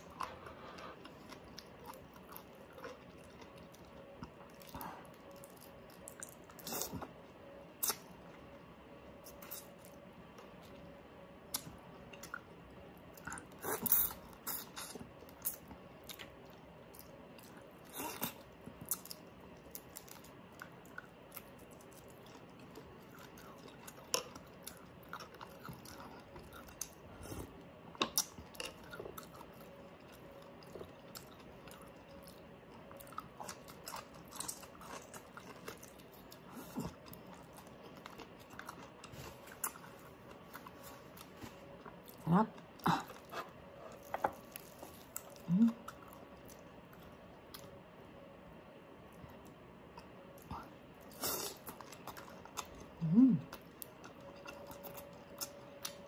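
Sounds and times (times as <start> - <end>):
chewing and crunching: 0.0 - 8.5, 9.2 - 47.8, 49.1 - 56.0.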